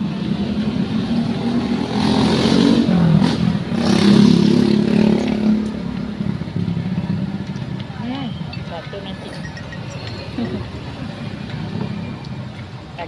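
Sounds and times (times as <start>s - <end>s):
motorcycles passing: 0.0s - 13.0s
vehicle engines passing: 0.0s - 13.0s.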